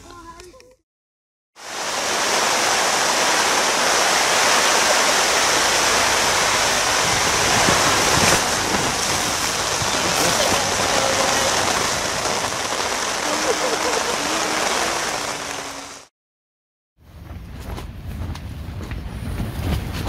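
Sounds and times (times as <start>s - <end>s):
rain and wind beating on tent: 1.6s - 16.1s, 17.3s - 20.0s.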